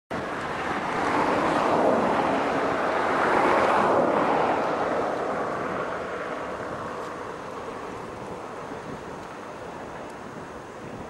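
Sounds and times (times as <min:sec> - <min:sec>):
jet engines at take-off power: 0:00.1 - 0:11.0.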